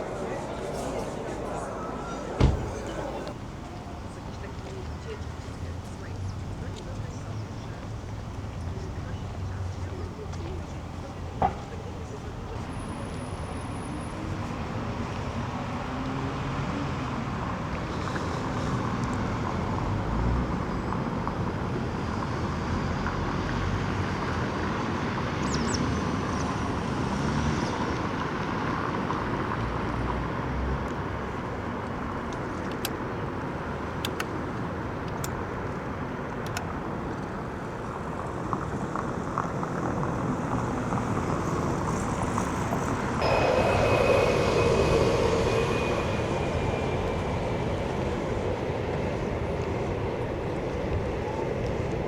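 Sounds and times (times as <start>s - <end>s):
city street traffic: 0.0s - 52.0s.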